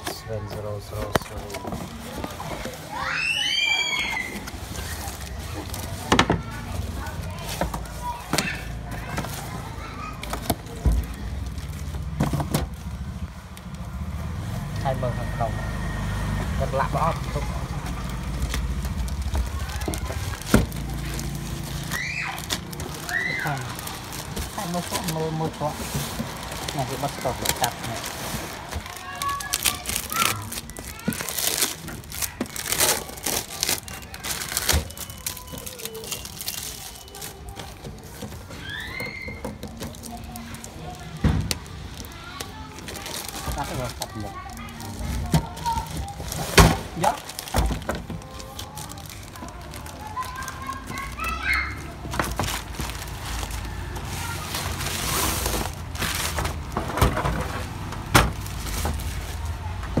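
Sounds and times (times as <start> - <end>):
plastic bag crinkling: 0.0 - 14.0, 15.6 - 60.0.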